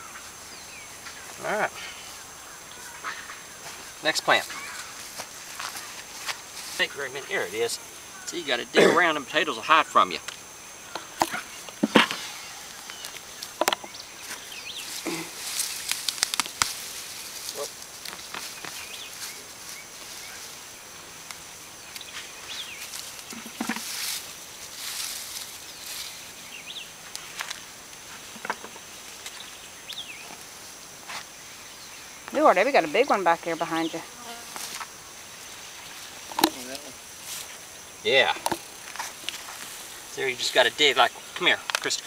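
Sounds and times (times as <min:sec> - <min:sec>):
high insect hum: 0:00.0 - 0:42.0.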